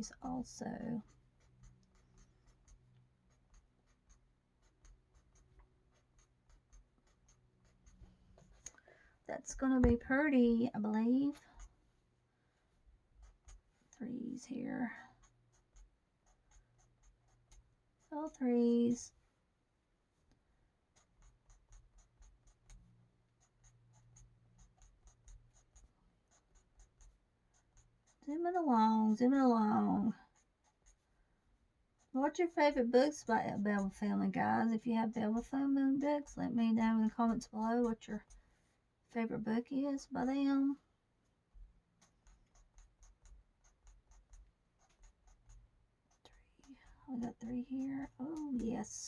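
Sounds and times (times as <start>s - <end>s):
marker strokes on paper: 0.0s - 12.0s, 13.0s - 19.2s, 20.9s - 49.0s.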